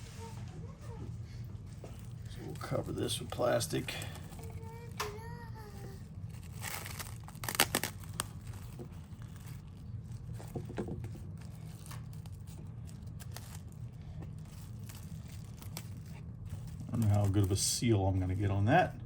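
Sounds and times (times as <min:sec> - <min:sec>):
steady low hum: 0:00.0 - 0:19.0
plastic sheet tearing and crinkling: 0:01.7 - 0:19.0.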